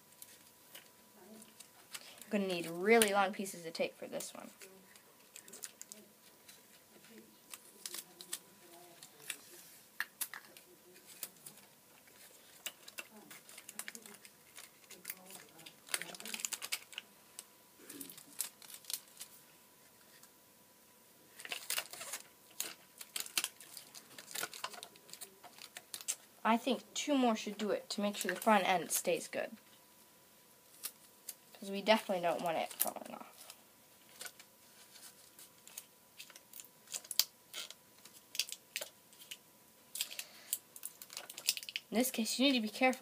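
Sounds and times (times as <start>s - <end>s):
adhesive tape crinkling and crackling: 0.0s - 19.4s, 21.3s - 26.3s, 28.1s - 29.8s, 30.6s - 43.0s.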